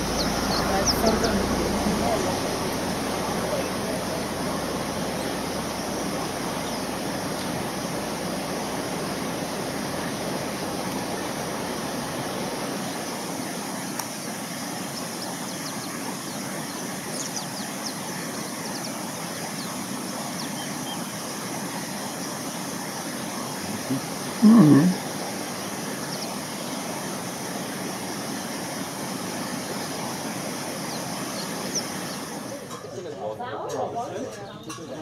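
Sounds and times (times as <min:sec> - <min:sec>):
steady rushing noise: 0:00.0 - 0:32.8.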